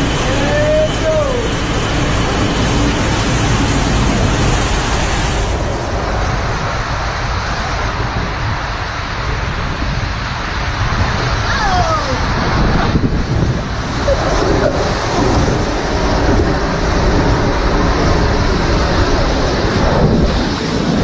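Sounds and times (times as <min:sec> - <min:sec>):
rushing splashing water: 0:00.0 - 0:21.0
wind buffeting microphone: 0:00.0 - 0:21.0.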